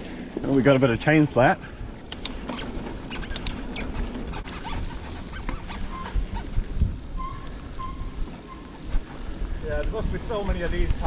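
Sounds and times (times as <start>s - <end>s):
bike tyres rumbling on dirt: 0.0s - 11.0s
bike chain rattling: 2.0s - 11.0s.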